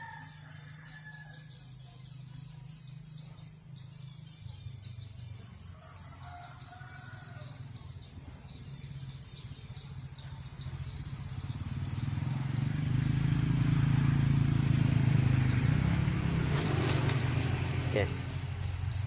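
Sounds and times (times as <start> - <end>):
vehicle engine passing by: 0.0 - 19.0.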